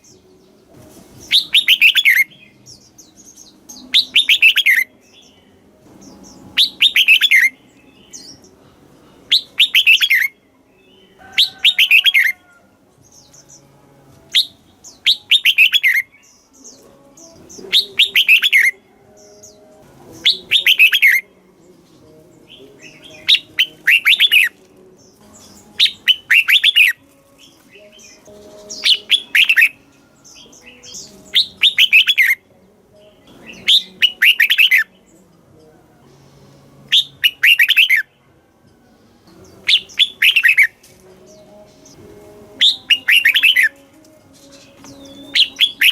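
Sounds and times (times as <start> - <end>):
bulbul singing: 0.0 - 45.9.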